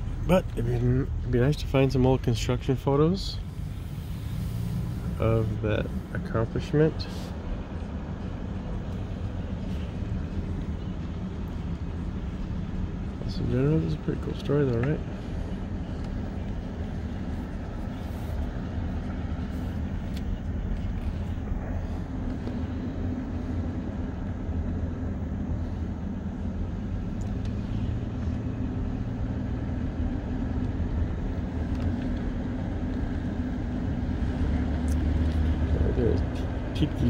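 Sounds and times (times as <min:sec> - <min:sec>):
car engine hum: 0:00.0 - 0:37.0
road noise: 0:00.0 - 0:37.0.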